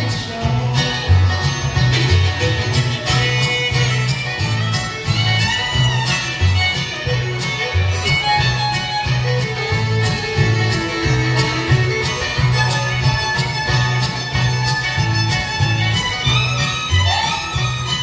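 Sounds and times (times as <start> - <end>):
fiddle melody: 0.0 - 18.0
guitar: 0.0 - 18.0
steady bass line: 0.0 - 18.0.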